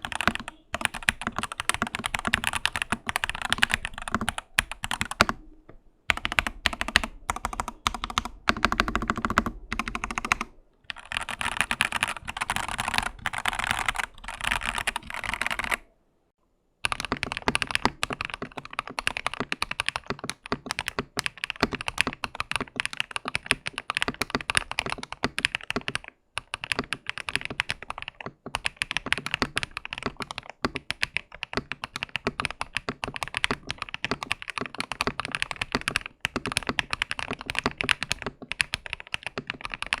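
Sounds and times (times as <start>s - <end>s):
mechanical keyboard typing: 0.0s - 5.4s, 6.1s - 15.9s, 16.8s - 40.0s.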